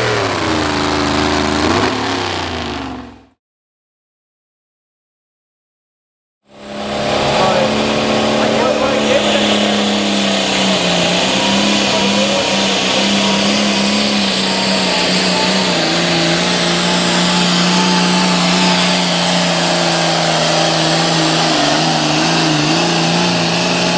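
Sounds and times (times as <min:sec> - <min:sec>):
tractor engine running hard: 0:00.0 - 0:03.4, 0:06.5 - 0:23.9.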